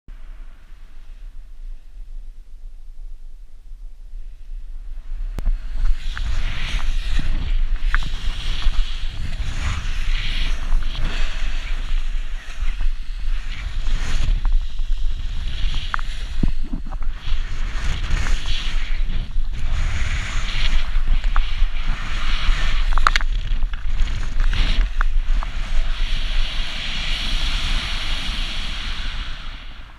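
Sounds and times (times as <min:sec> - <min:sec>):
wind rushing over microphone: 0:00.1 - 0:29.9.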